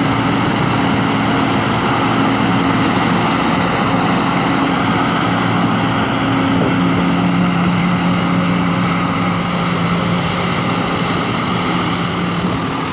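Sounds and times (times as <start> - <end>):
diesel engines droning: 0.0 - 12.9.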